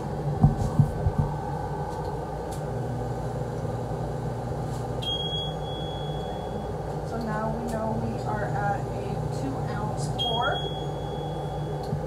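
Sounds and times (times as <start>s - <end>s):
filling machine humming: 0.0s - 12.0s.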